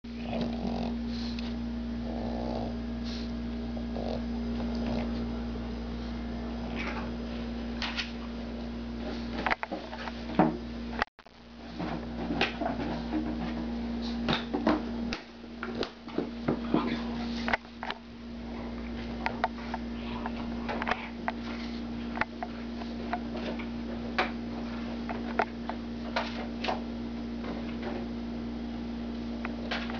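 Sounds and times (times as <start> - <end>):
steady hum: 0.1 - 29.9.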